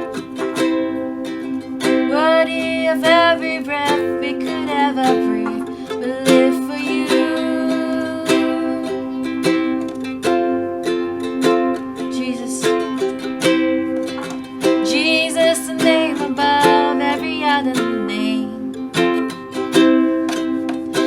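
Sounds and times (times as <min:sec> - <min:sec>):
gliding melody line: 0:00.0 - 0:21.0
strummed acoustic guitar: 0:00.0 - 0:21.0.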